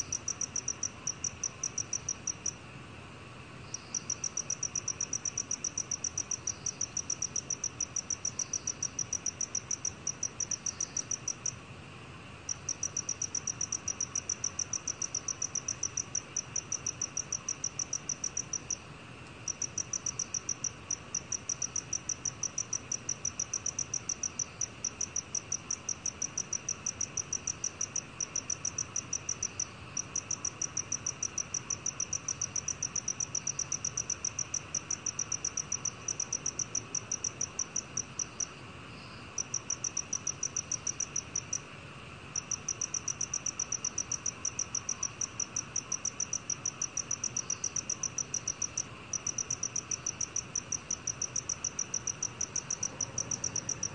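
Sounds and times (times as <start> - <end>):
cricket chirping: 0.0 - 2.6, 3.6 - 11.7, 12.4 - 53.9.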